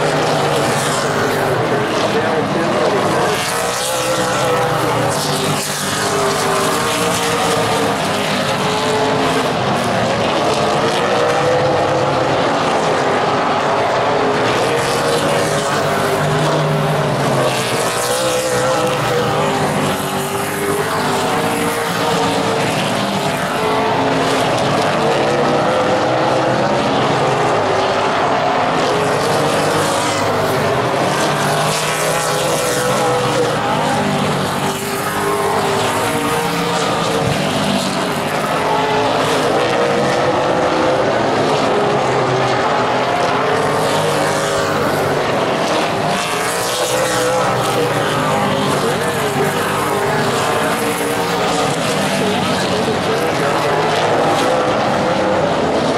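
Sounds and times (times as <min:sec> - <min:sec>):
racing car engines: 0:00.0 - 0:55.9.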